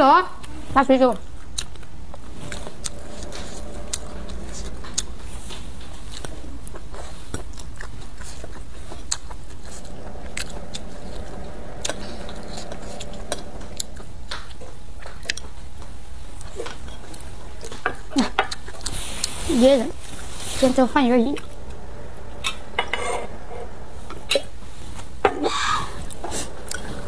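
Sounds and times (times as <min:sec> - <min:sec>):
steady low hum: 0:00.4 - 0:27.0.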